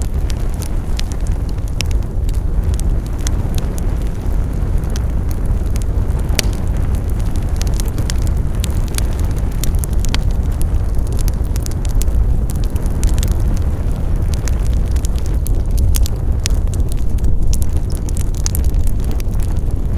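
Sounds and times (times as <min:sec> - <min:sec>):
wood fire crackling and popping: 0:00.0 - 0:19.9.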